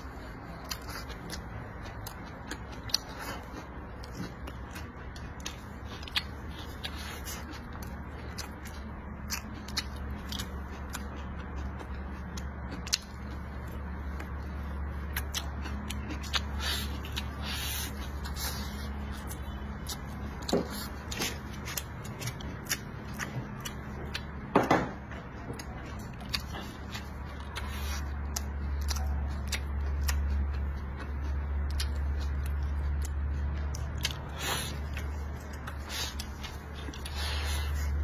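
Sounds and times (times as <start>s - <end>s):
person chewing food: 0.0s - 38.0s
steady low hum: 0.0s - 38.0s.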